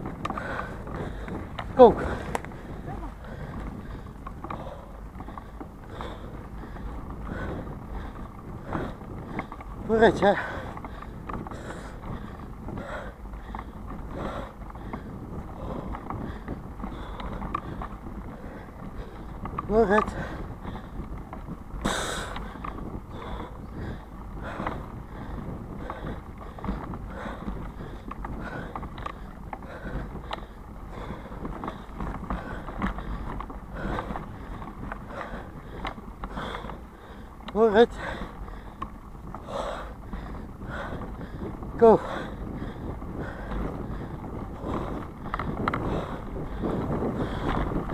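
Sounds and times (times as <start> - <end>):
bike clicks and knocks: 0.0 - 47.9
bike tyres rumbling on dirt: 0.0 - 47.9
wind buffeting microphone: 0.0 - 47.9.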